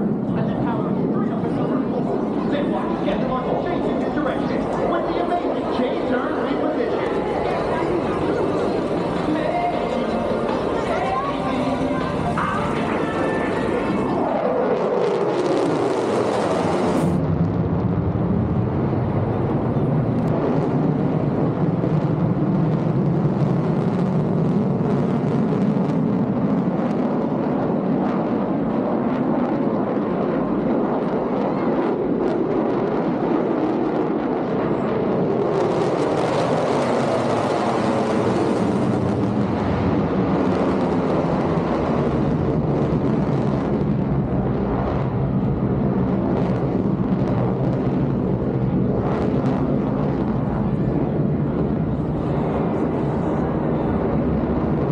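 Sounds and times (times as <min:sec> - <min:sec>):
fighter jet engine roaring: 0:00.0 - 0:54.9.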